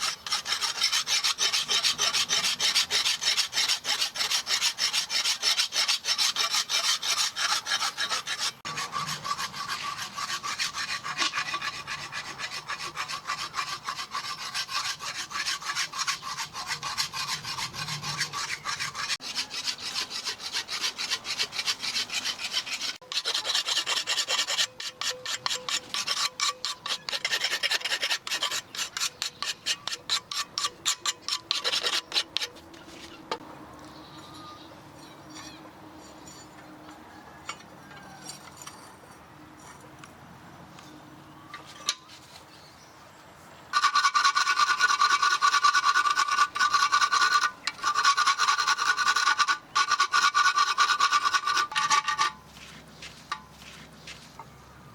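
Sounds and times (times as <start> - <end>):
hand strokes rasping on machete blade: 0.0 - 33.4, 43.7 - 54.4.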